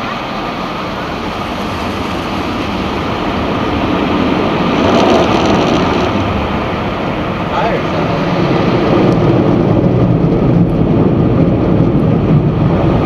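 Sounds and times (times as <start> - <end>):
car wash spray and machinery: 0.0 - 13.0.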